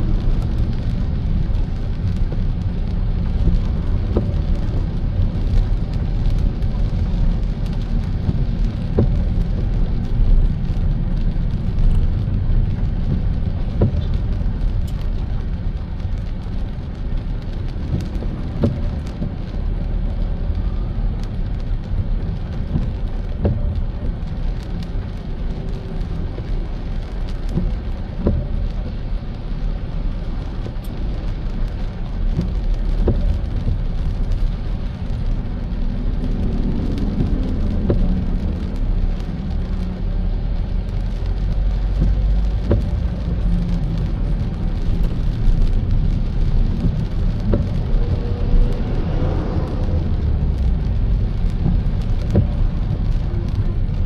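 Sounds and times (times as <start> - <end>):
rain and spray hiss: 0.0 - 54.0
road rumble: 0.0 - 54.0.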